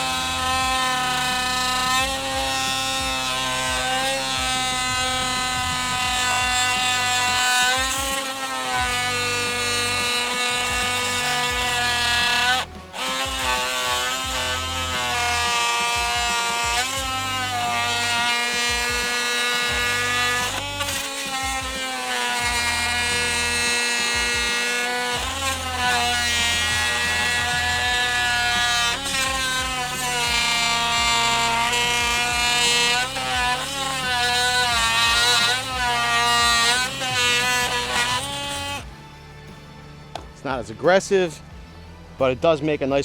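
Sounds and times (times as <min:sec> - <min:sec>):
multi-tool cutting plastic pipe: 0:00.0 - 0:39.0.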